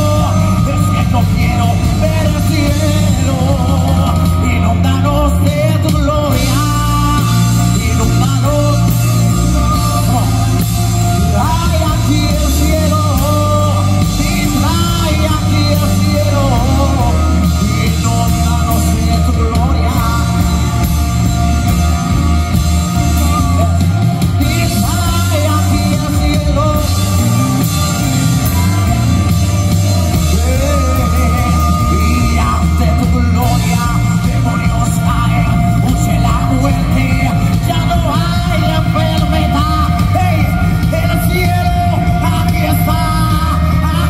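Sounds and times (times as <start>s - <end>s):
live band playing worship song: 0.0s - 44.0s
young man singing through pa: 0.0s - 44.0s.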